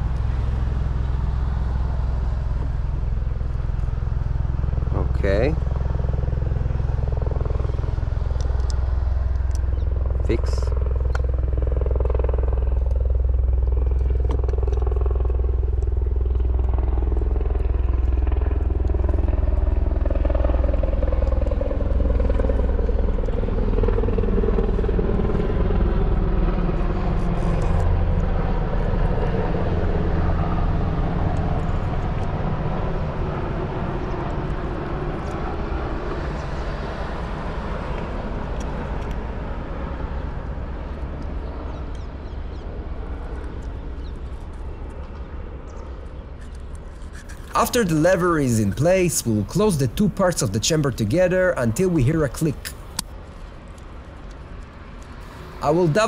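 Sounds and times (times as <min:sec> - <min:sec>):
deep engine drone: 0:00.0 - 0:56.0.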